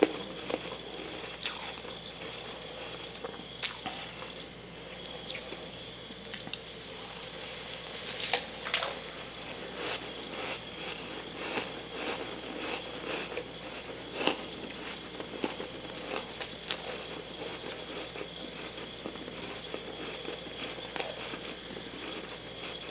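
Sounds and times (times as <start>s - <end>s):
chewing frost crunches: 0.0s - 22.9s.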